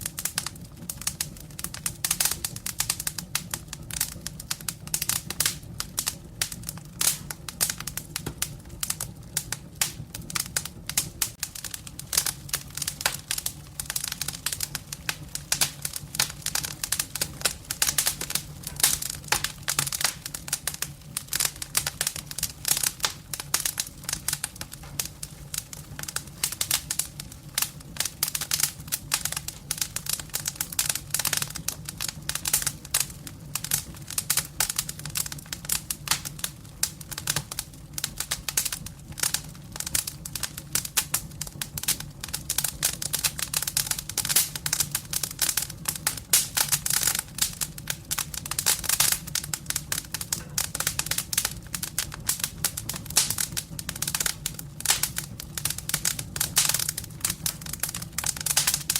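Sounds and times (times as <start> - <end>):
firewood crackling: 0.0 - 58.9.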